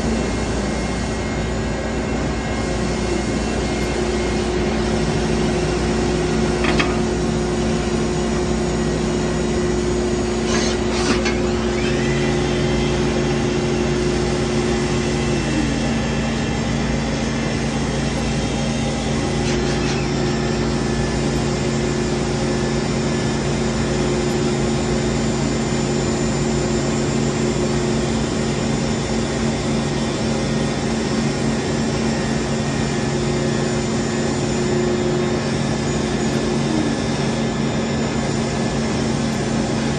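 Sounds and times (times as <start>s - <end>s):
lathe machine humming: 0.0s - 39.9s.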